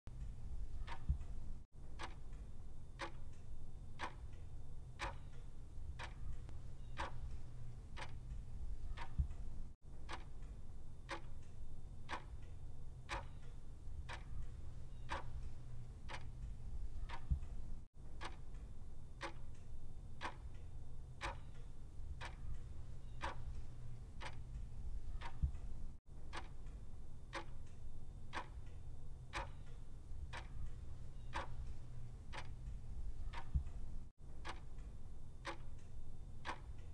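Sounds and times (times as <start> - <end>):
clock ticking: 0.1 - 20.6, 21.2 - 36.9
low steady hum: 0.1 - 36.9.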